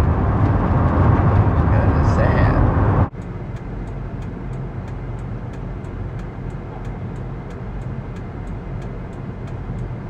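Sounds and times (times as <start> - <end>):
engine and road rumble inside vehicle: 0.0 - 10.0.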